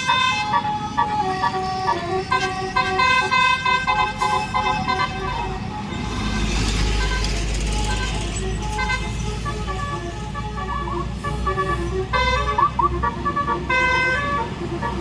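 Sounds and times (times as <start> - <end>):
multi-trumpet air horn melody: 0.0 - 15.0.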